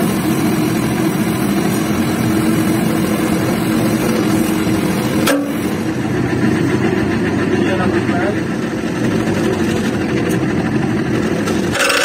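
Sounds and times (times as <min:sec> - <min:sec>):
hydraulic press running: 0:00.0 - 0:12.0.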